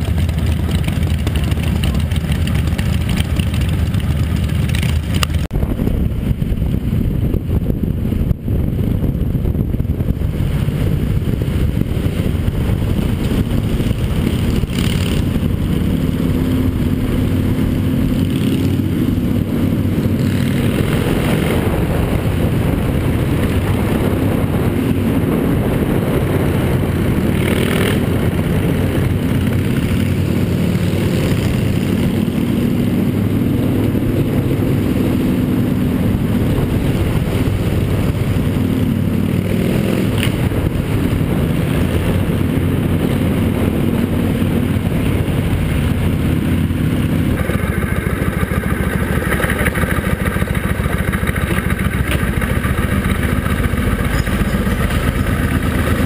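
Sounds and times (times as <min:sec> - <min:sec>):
motorcycle engine running: 0:00.0 - 0:56.0
wind and road rumble: 0:00.0 - 0:56.0.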